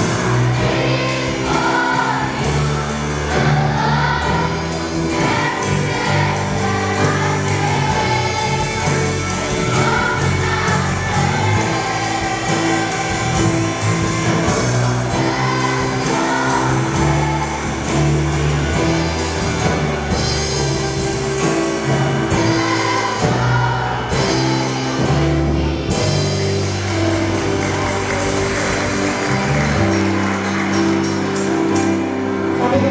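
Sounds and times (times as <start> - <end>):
children's choir singing a hymn: 0.0 - 32.9
held bass line: 0.0 - 32.9
instrumental accompaniment: 0.0 - 32.9.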